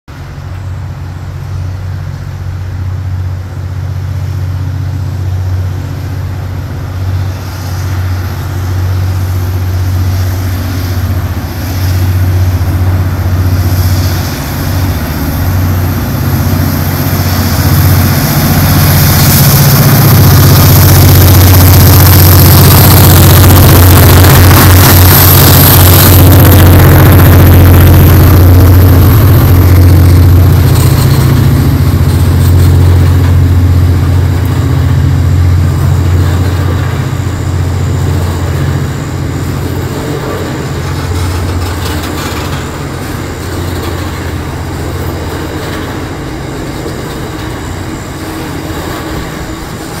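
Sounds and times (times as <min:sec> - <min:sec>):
diesel locomotive drone: 0:00.1 - 0:50.0
train wagons rumbling on rails: 0:00.1 - 0:50.0.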